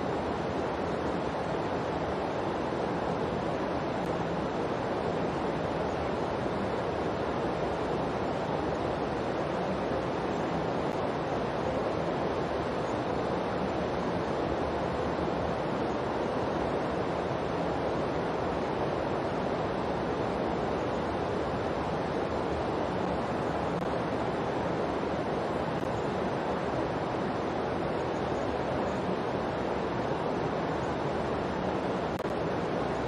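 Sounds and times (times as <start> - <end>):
steady rushing noise: 0.0 - 33.0.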